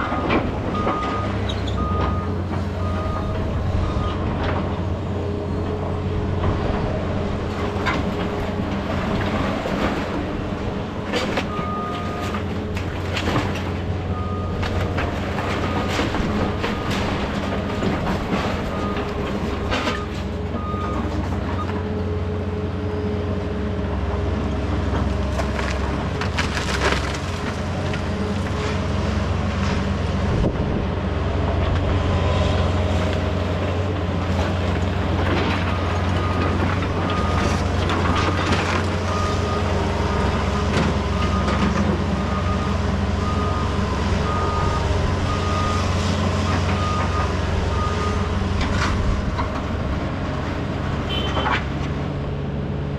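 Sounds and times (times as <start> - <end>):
diesel heavy equipment running: 0.0 - 52.9.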